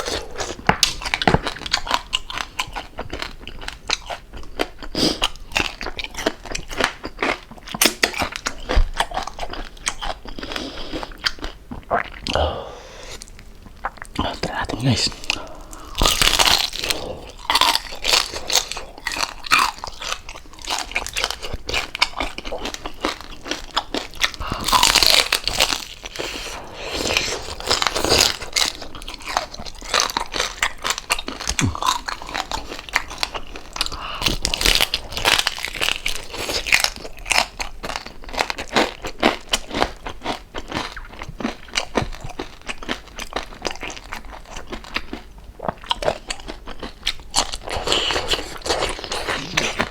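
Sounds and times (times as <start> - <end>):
crunching and chewing crispy food: 0.0 - 12.4, 13.0 - 49.9.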